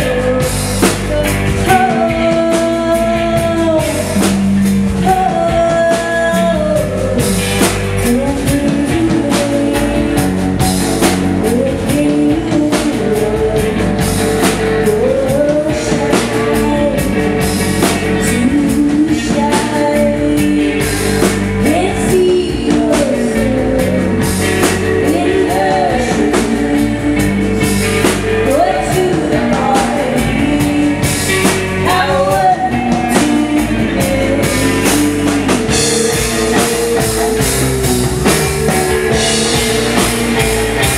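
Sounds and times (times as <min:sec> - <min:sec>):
woman singing: 0:00.0 - 0:37.5
live rock band: 0:00.0 - 0:40.9.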